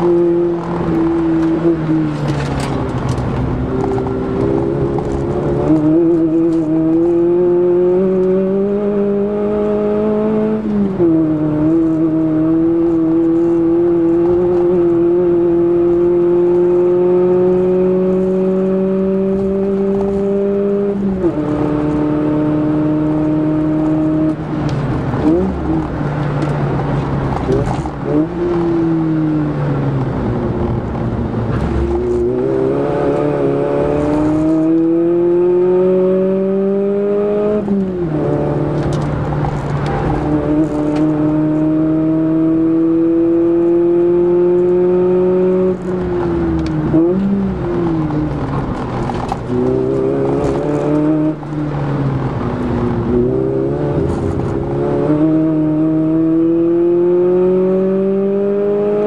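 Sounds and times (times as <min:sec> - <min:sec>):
car engine revving through gears: 0:00.0 - 0:59.0.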